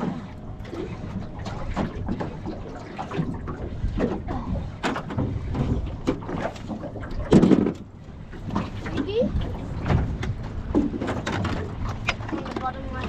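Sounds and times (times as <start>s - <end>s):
knocks and clatter in boat: 0.0s - 13.0s
water slapping boat hull: 0.0s - 13.0s
wind on microphone: 0.0s - 13.0s.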